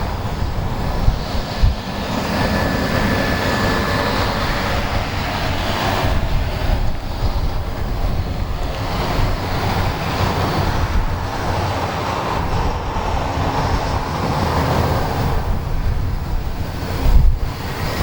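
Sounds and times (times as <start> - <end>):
turboprop engine rushing: 0.0 - 18.0
wind buffeting microphone: 0.0 - 18.0.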